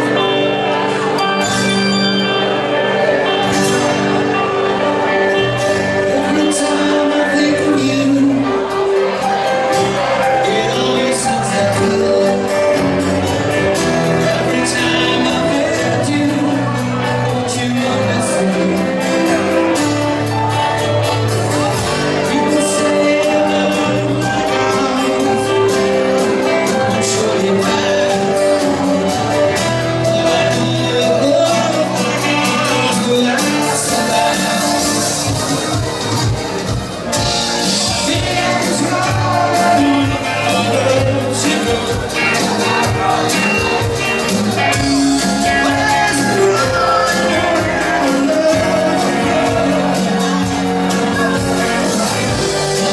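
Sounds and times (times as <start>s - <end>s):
electric guitars: 0.0s - 52.9s
keyboard: 0.0s - 52.9s
male lead singer: 0.0s - 52.9s
drums keeping a steady beat: 2.4s - 52.9s.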